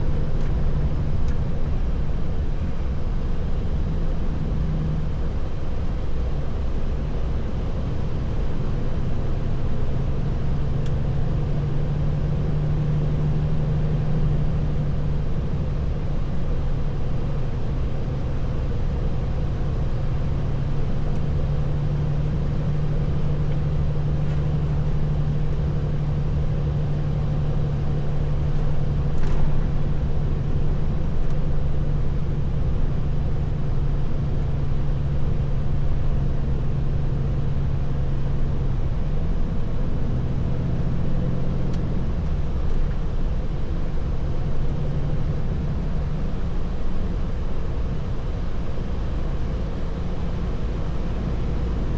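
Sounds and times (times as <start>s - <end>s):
road noise: 0.0s - 51.9s.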